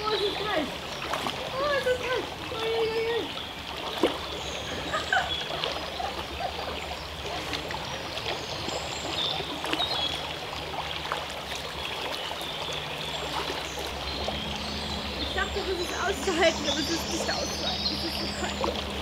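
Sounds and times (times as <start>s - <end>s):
splashing of wading: 0.0s - 19.0s
stream running over stones: 0.0s - 19.0s.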